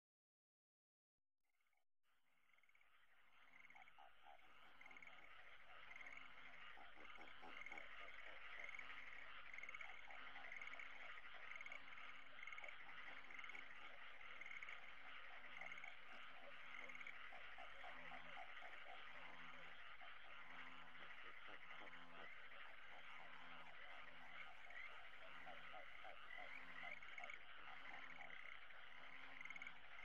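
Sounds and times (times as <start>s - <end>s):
frogs croaking: 1.6s - 30.0s
frog calling: 2.3s - 30.0s
insects trilling: 2.9s - 30.0s.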